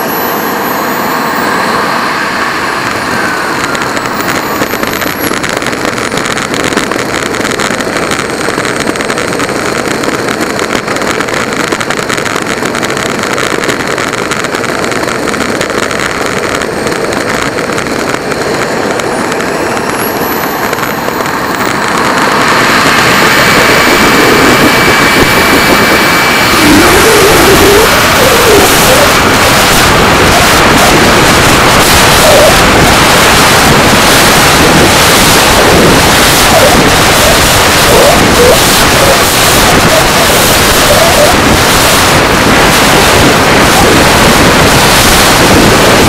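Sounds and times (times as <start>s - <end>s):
model jet turbine whine: 0.0s - 46.0s
wheels rumbling over asphalt: 0.0s - 46.0s.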